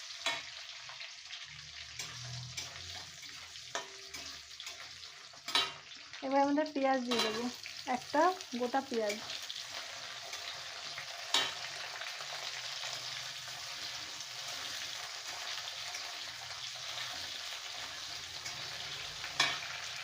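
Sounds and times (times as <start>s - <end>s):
onion sizzling in hot oil: 0.0s - 20.0s.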